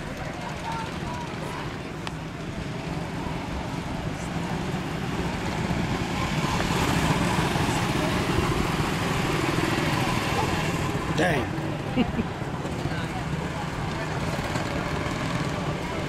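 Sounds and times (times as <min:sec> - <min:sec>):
small race car engines: 0:00.0 - 0:16.0.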